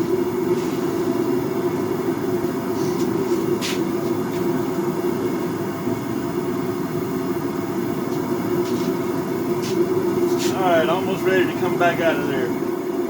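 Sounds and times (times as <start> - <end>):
forge burners rushing: 0.0 - 13.0.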